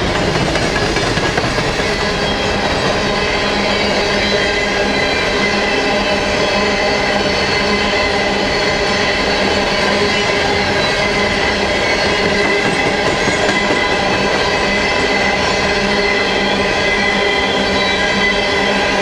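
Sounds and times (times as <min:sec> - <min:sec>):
steel wheels rolling on rail: 0:00.0 - 0:19.0.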